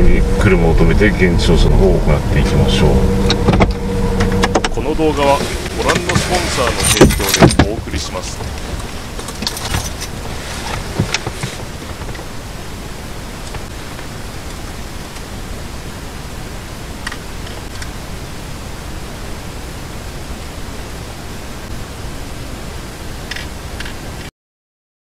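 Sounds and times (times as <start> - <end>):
steady rushing hiss: 0.0 - 24.3.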